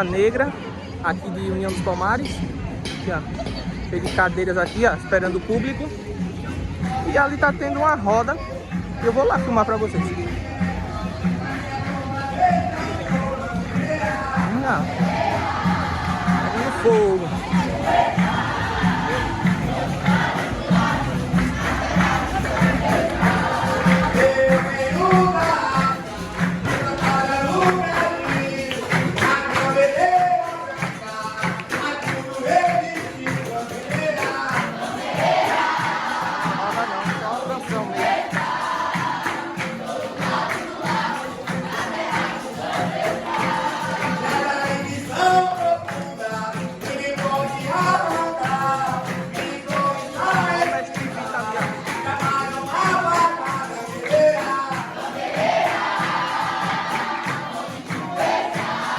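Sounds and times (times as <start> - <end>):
berimbaus and hand percussion: 0.0 - 58.9
group singing: 9.3 - 58.9.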